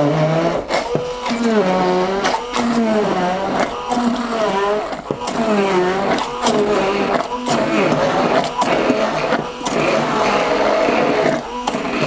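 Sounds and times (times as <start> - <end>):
stick blender motor running: 0.0 - 12.0.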